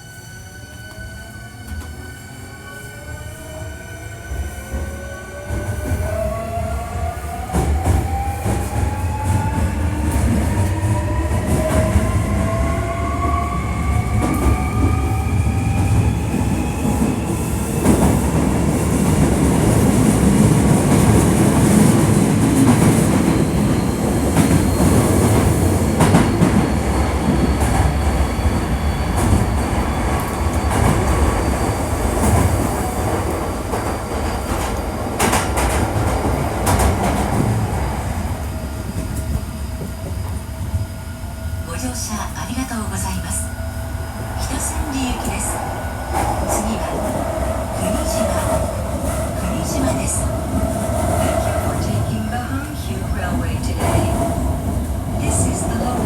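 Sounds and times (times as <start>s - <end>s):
train wheels rumbling on rail: 3.2s - 56.0s.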